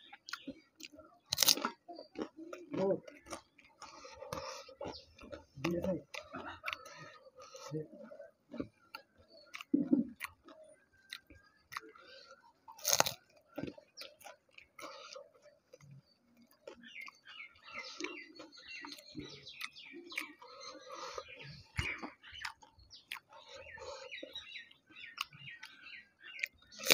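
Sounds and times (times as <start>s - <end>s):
chewing crisp shells: 0.0s - 26.9s.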